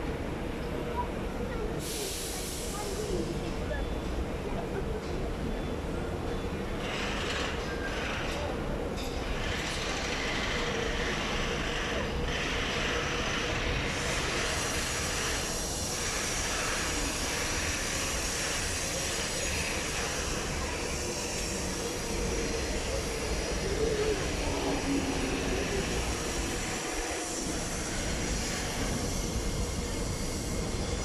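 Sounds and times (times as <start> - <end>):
trains rumbling: 0.0 - 31.0.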